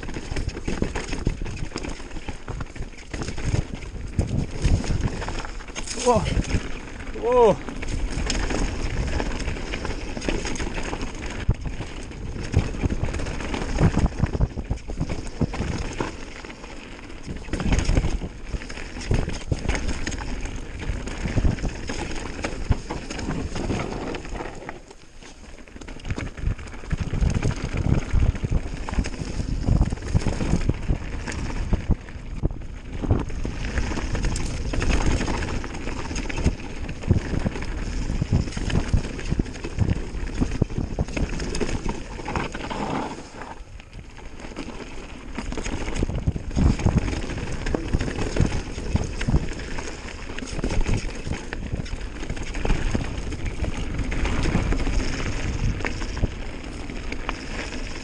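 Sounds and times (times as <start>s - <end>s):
wind on microphone: 0.0s - 16.2s, 17.2s - 24.4s, 26.0s - 44.2s, 45.0s - 58.0s
bike rattling over bumps: 0.0s - 58.0s.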